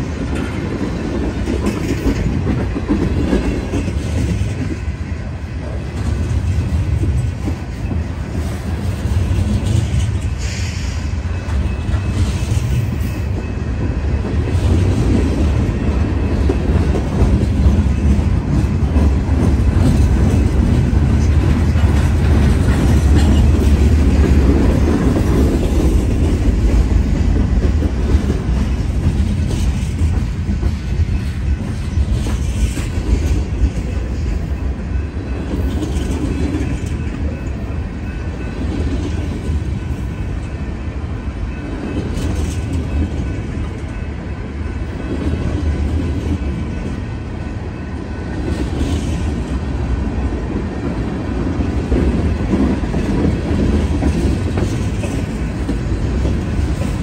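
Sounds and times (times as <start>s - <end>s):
faint clanks of train cars: 0.0s - 57.0s
train wheels rumbling on rails: 0.0s - 57.0s.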